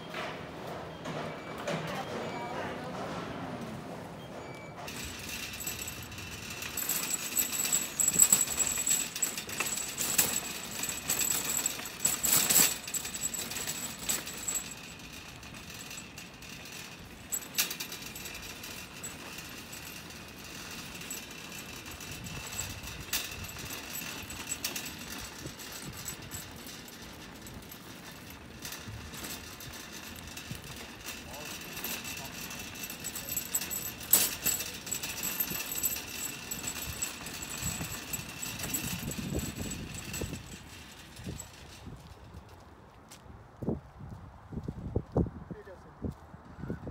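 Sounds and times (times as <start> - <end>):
shopping cart rattling on asphalt: 4.5 - 42.6.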